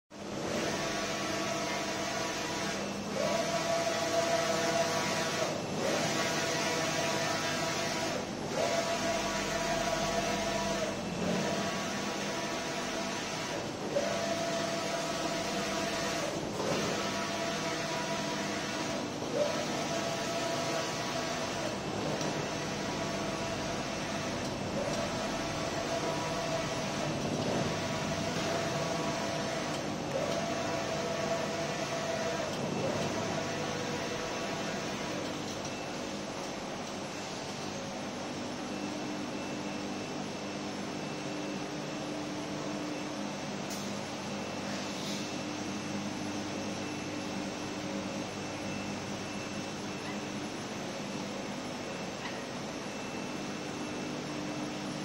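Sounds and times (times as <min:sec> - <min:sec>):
printer motor whine: 0:00.2 - 0:55.0.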